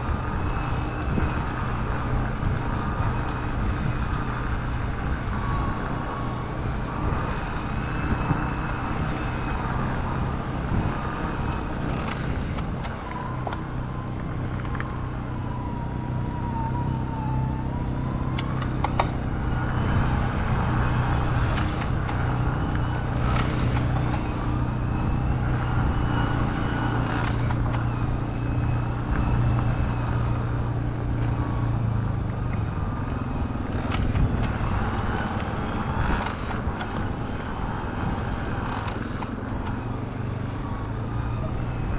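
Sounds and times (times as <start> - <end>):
low motor hum: 0.0 - 41.9.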